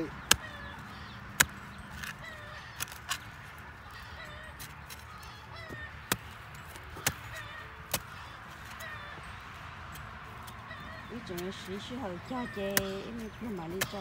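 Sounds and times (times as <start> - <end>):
faint wavering calls: 0.0 - 14.0.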